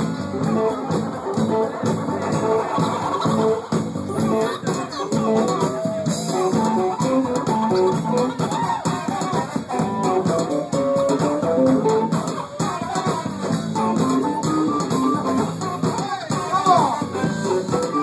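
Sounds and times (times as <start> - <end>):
live band playing instrumental: 0.0 - 18.0.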